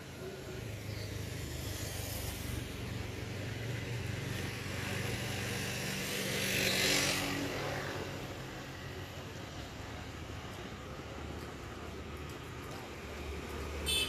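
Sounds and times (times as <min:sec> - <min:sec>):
road noise hiss: 0:00.0 - 0:14.0.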